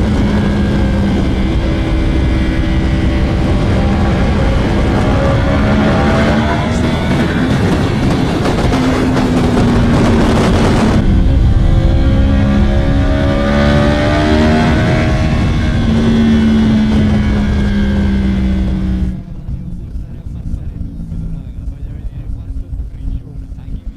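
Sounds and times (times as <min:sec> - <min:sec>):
loud rushing noise: 0:00.0 - 0:22.3
motorcycle engine running: 0:00.0 - 0:23.9.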